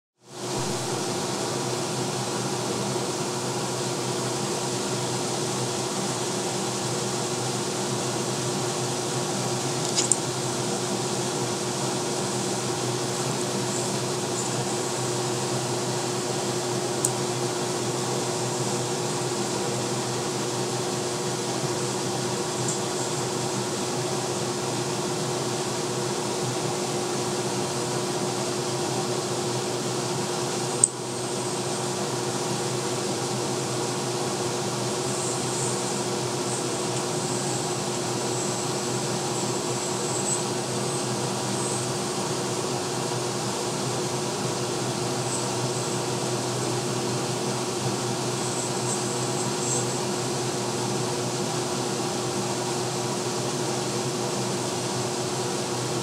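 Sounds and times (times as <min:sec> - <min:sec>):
steady hum and hiss: 0:00.2 - 0:56.0.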